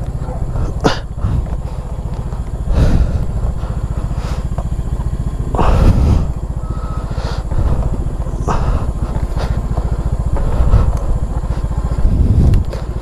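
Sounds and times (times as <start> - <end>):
motor scooter engine running: 0.0 - 13.0.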